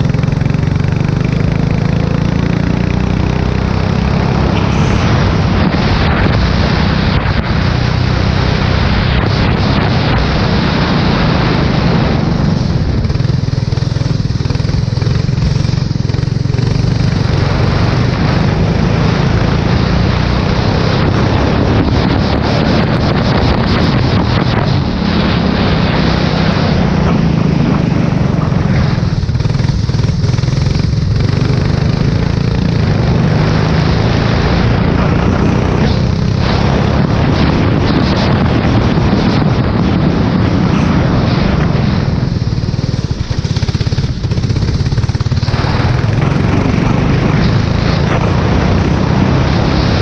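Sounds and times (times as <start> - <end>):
race car engine running hard: 0.0 - 50.0
wind noise hiss: 2.5 - 50.0.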